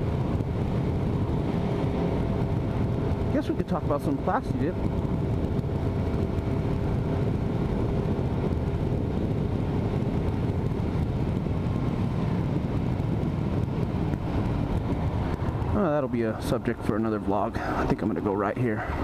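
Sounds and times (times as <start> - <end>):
motorcycle engine running: 0.0 - 17.5
wind rushing over microphone: 0.0 - 19.0.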